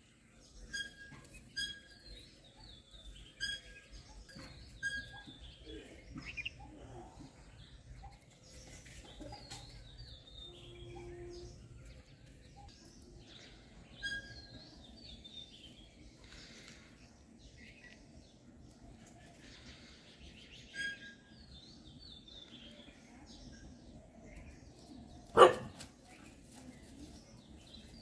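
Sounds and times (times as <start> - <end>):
birds chirping and calling: 0.3 - 28.0.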